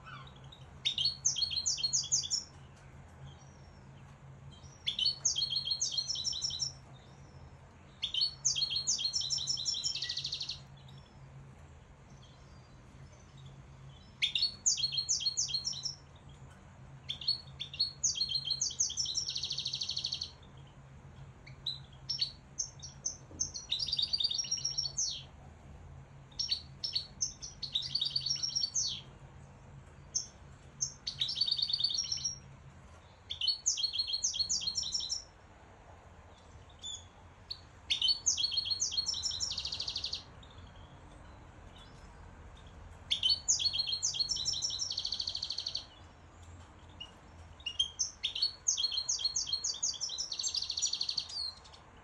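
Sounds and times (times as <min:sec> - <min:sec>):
finch singing trills: 0:00.0 - 0:11.4, 0:12.1 - 0:20.8, 0:21.4 - 0:25.3, 0:26.3 - 0:29.2, 0:29.9 - 0:35.3, 0:36.3 - 0:52.0.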